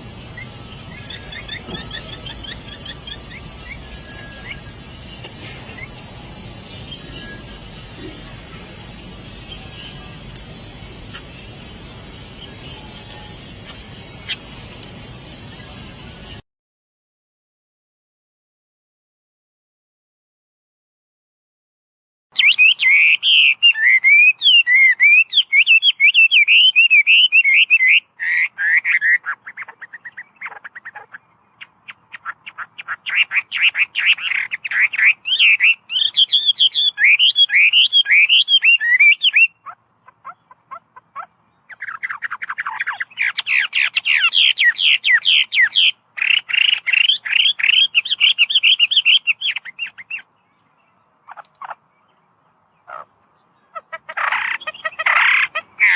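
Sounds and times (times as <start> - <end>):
bird singing whistles and trills: 0.0 - 16.4, 22.3 - 55.9.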